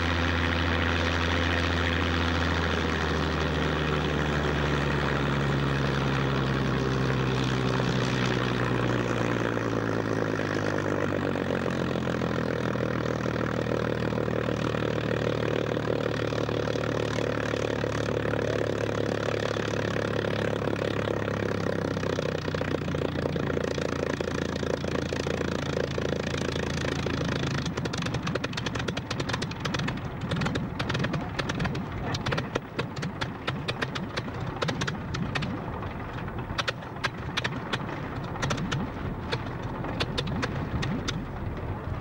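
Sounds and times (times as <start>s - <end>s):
aircraft engine running: 0.0s - 42.0s
exhaust crackles and pops: 4.0s - 42.0s.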